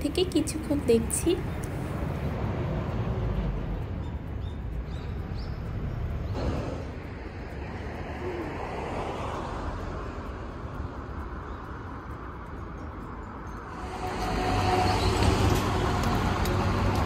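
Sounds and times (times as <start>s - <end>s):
road traffic hiss and rumble: 0.0s - 17.0s.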